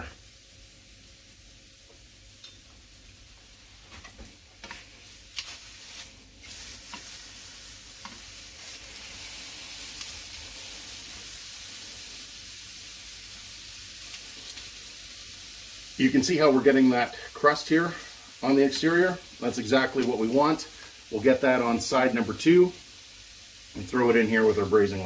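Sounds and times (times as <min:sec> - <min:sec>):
meat sizzling in a frying pan: 0:00.0 - 0:25.0.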